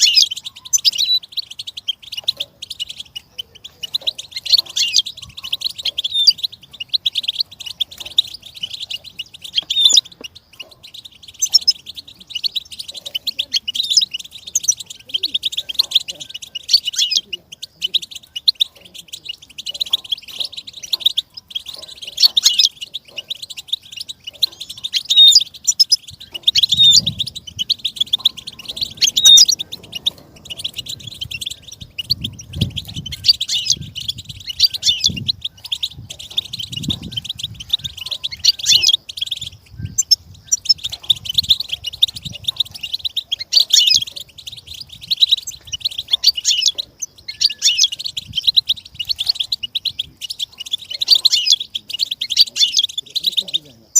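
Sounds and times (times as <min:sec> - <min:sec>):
goldfinch twittering song: 0:00.0 - 0:53.9.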